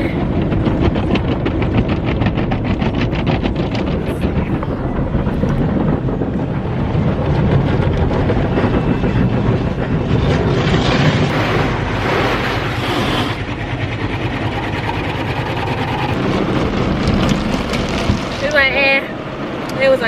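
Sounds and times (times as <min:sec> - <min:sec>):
car wash spray and rumble: 0:00.0 - 0:20.0.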